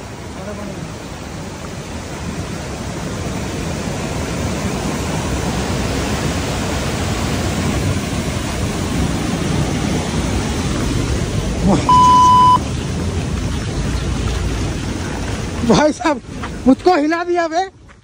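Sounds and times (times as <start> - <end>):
stream and waterfall rushing: 0.0 - 17.6.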